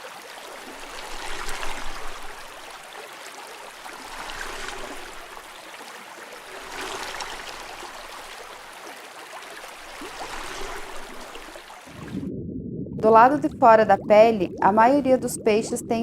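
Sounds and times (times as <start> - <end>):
underwater bubbling water: 0.3 - 16.0.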